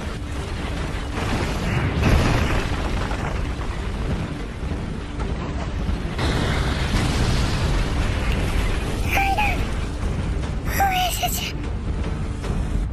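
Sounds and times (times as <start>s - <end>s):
rumbling of collapsing masonry: 0.0s - 10.6s.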